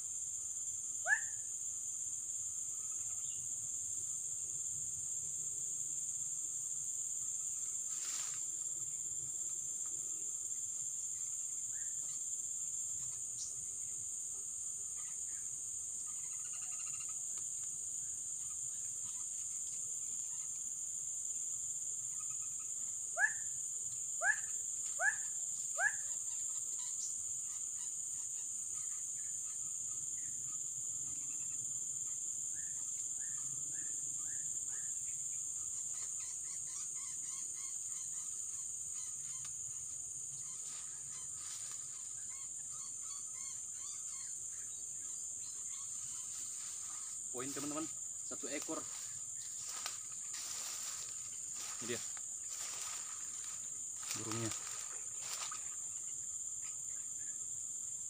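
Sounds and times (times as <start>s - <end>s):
forest insects droning: 0.0s - 58.0s.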